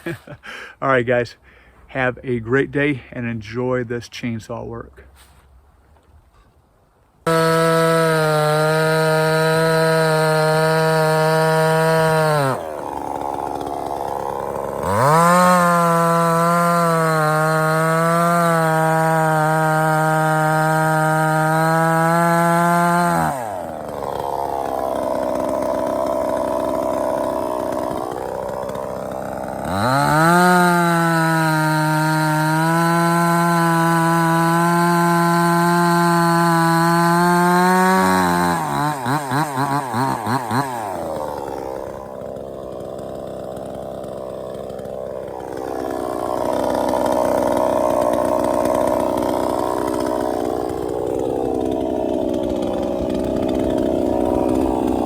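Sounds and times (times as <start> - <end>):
chainsaw cutting wood: 0.0 - 0.7, 7.2 - 55.0.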